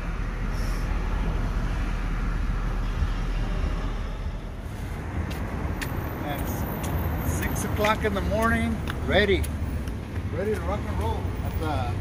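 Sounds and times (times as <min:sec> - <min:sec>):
traffic noise: 0:00.0 - 0:12.0
vehicle engine rumble: 0:00.0 - 0:12.0.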